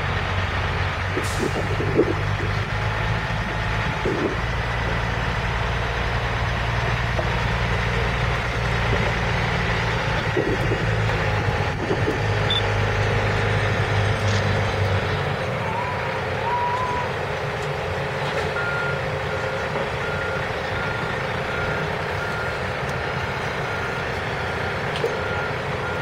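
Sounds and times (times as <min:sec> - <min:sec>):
diesel truck engine humming: 0:00.0 - 0:26.0.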